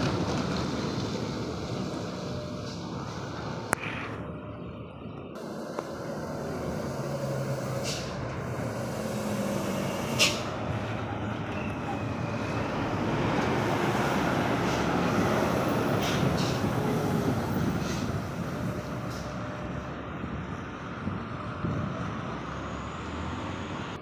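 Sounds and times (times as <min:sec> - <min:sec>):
heavy trucks driving past: 0:00.0 - 0:24.0.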